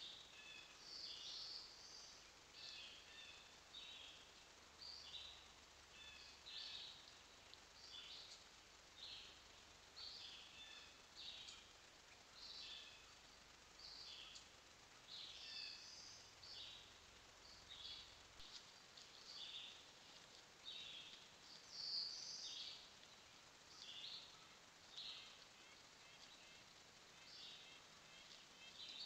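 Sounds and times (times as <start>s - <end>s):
background hiss: 0.0s - 29.0s
faint songbirds singing: 0.0s - 29.0s.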